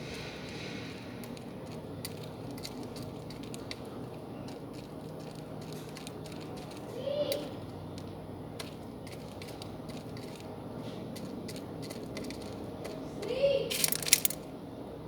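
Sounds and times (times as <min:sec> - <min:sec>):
bird pecking and scratching: 0:00.0 - 0:14.5
steady low hum: 0:00.0 - 0:15.0.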